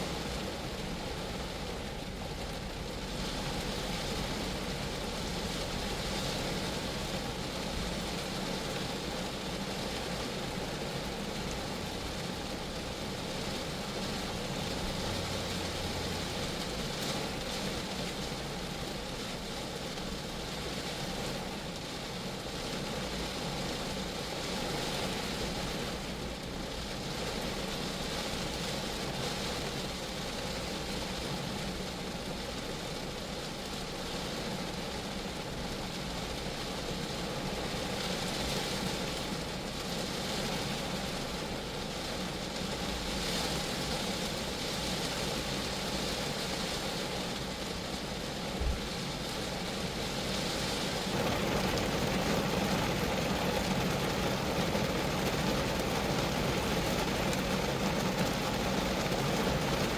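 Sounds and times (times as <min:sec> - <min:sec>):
rain falling on a car: 0:00.0 - 0:59.9.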